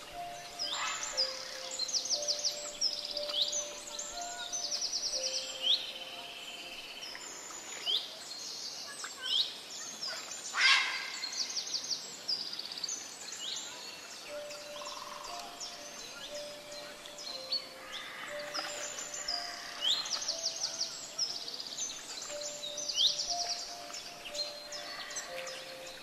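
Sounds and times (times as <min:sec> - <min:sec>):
birds singing: 0:00.0 - 0:26.0
steady background hiss: 0:00.0 - 0:26.0.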